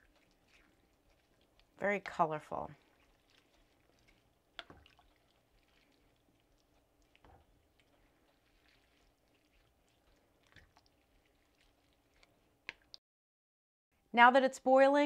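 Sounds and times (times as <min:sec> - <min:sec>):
wooden spoon stirring soup: 0:00.0 - 0:13.0.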